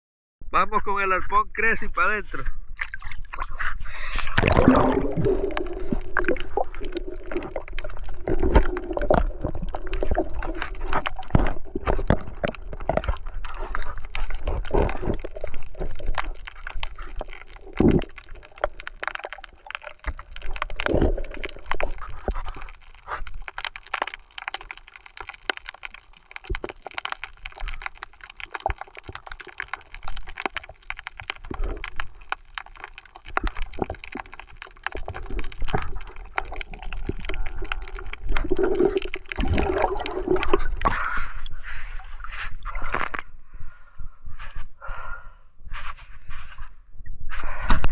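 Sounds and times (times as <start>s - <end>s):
muffled water movement: 2.6s - 47.9s
underwater clicks and crackles: 2.7s - 43.5s, 45.8s - 47.9s.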